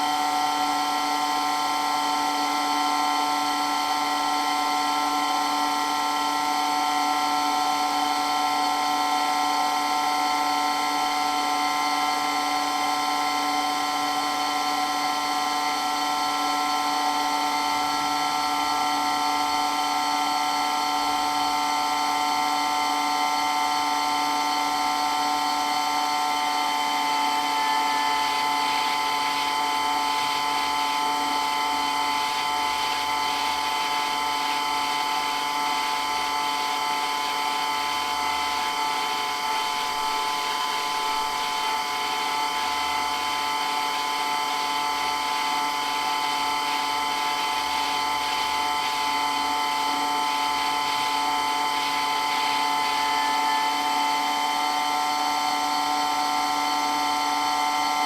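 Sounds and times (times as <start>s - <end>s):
electric water pump whining: 0.0s - 58.0s.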